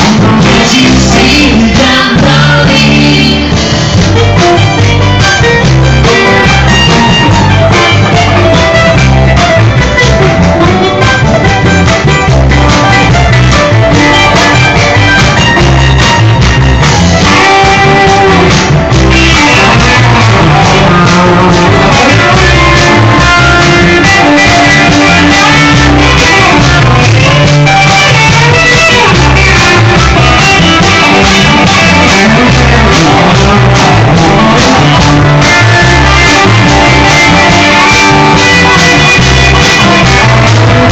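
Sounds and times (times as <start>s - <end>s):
live band playing loud music: 0.0s - 40.9s.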